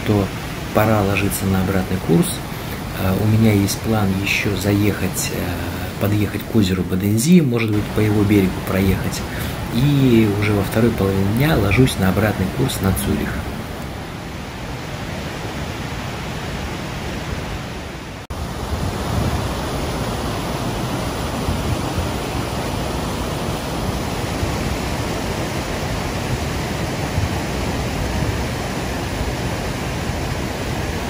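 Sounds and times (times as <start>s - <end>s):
waterfall rushing over rocks: 0.0s - 31.0s.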